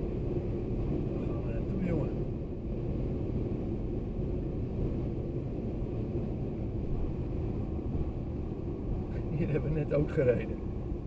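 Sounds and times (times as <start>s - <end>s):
car driving rumble from inside: 0.0s - 11.0s.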